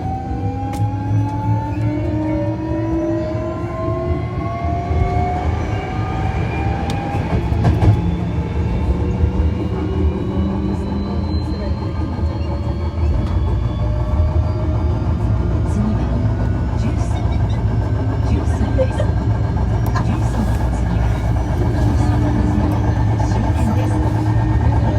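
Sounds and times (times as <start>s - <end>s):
train inverter whine rising: 0.0s - 24.9s
wheels rumbling on rail: 0.0s - 24.9s.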